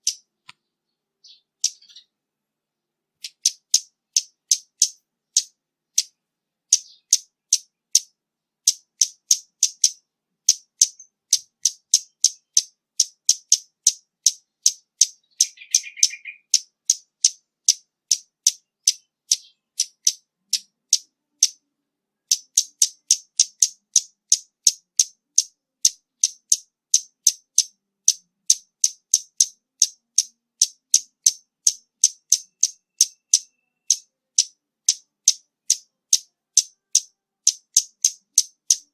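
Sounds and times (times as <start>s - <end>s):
bird calling with sharp high ticks: 0.0s - 2.1s, 3.2s - 21.6s, 22.2s - 38.9s.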